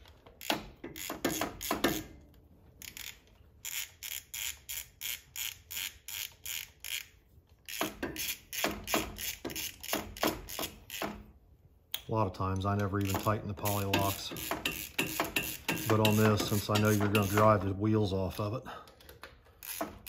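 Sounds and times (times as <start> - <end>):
hand ratchet clicking: 0.0 - 11.3, 11.9 - 17.7, 18.3 - 20.0.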